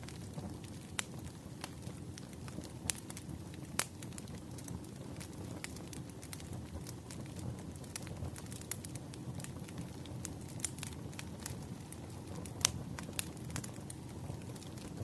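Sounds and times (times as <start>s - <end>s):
fire low rumble: 0.0s - 15.0s
firewood crackling and popping: 0.0s - 15.0s.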